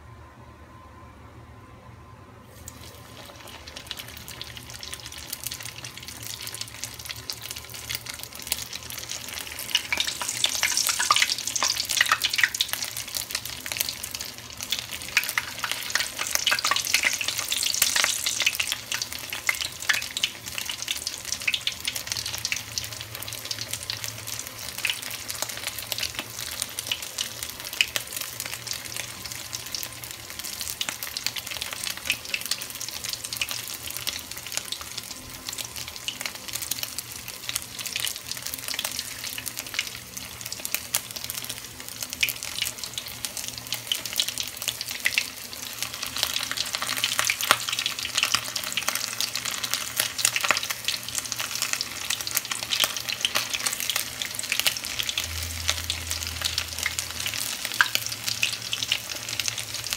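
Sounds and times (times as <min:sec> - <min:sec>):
food deep-frying in hot oil: 0:02.5 - 0:59.9.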